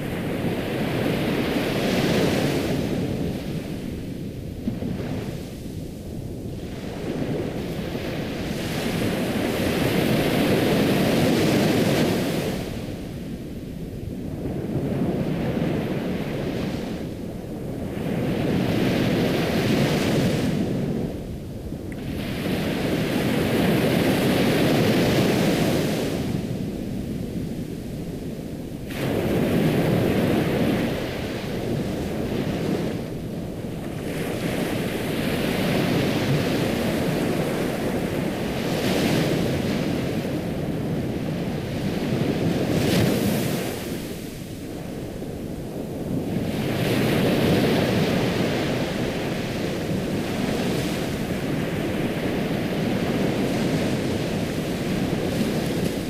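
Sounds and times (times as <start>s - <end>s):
ocean waves washing: 0.0s - 56.0s.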